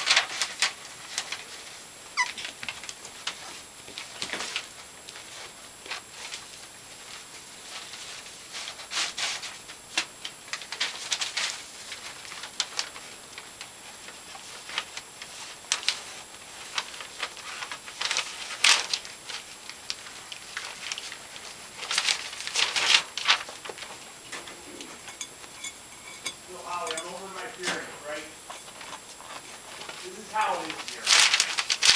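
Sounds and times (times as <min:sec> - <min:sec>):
puppies rustling bedding: 0:00.0 - 0:31.9.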